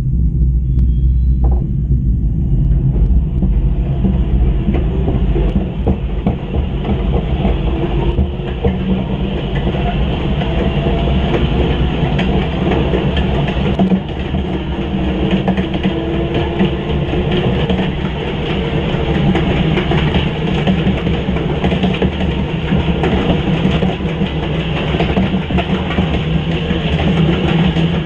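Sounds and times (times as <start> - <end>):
steady low drone: 0.0 - 28.0.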